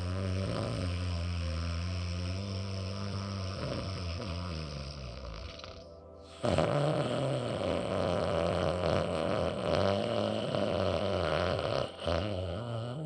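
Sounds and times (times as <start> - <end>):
rasping breath through nose: 0.0 - 13.0.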